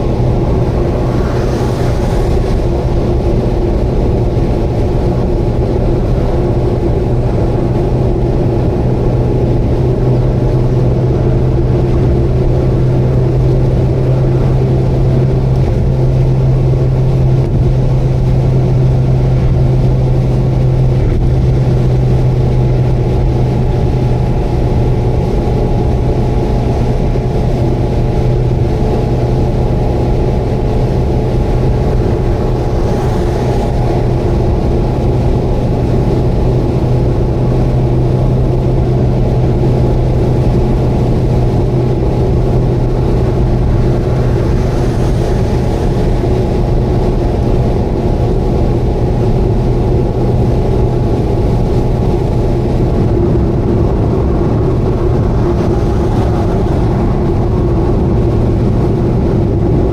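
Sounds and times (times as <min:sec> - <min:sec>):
car engine droning: 0:00.0 - 0:59.9
road noise: 0:00.0 - 0:59.9.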